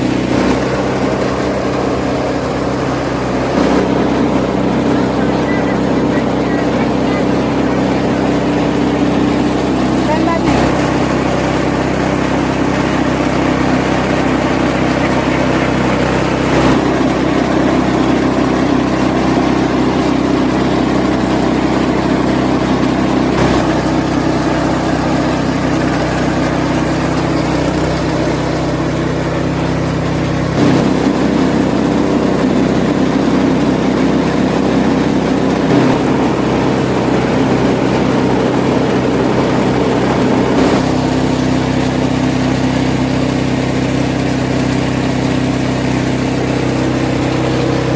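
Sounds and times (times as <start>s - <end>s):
chopping machine motor drone: 0.0s - 47.9s.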